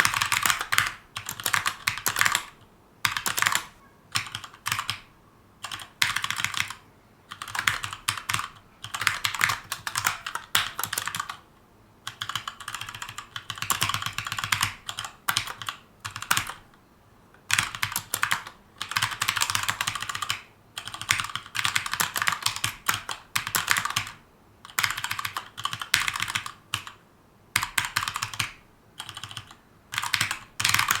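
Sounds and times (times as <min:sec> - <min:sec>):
mechanical keyboard typing: 0:00.0 - 0:11.4, 0:12.0 - 0:16.7, 0:17.5 - 0:27.0, 0:27.6 - 0:31.0.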